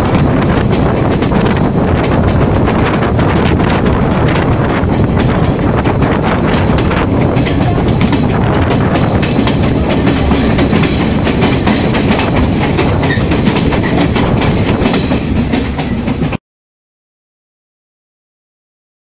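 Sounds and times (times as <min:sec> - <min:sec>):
train rumbling: 0:00.0 - 0:16.4
wheels clattering over rails: 0:00.0 - 0:16.4.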